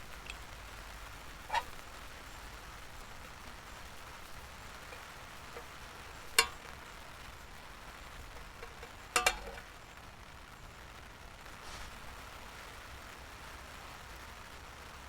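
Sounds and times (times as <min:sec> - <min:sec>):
eggs sizzling in a pan: 0:00.0 - 0:15.0.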